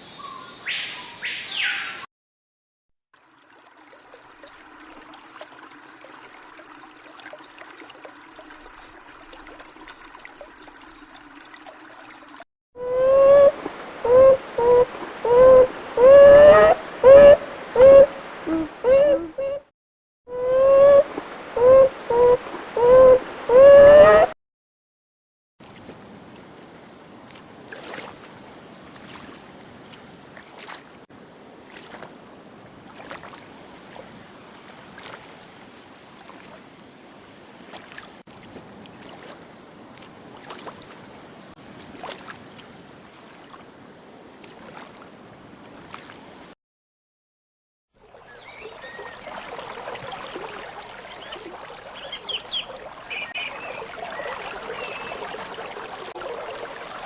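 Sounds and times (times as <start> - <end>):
running water with splashes: 3.1 - 19.6, 20.4 - 24.3, 27.2 - 46.5, 48.0 - 57.0.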